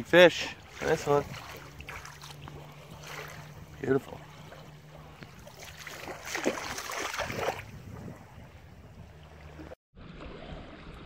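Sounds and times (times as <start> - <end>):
steady low hum: 0.3 - 9.8
water splashing: 0.4 - 11.0.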